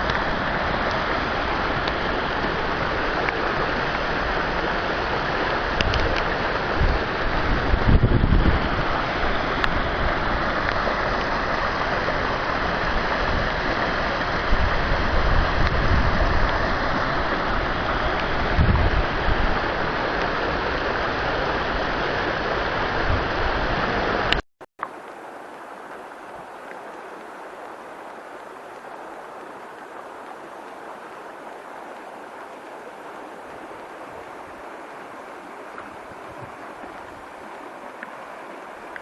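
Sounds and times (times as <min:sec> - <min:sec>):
rush of water in heavy rain: 0:00.0 - 0:39.0.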